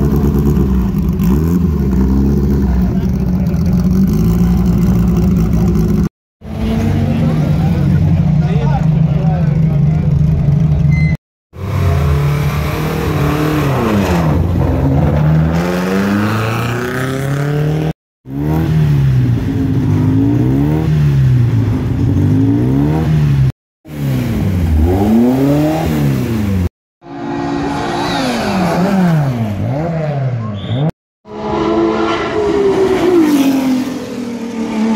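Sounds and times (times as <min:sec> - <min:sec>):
race car engines revving: 0:00.0 - 0:11.0, 0:11.6 - 0:34.9.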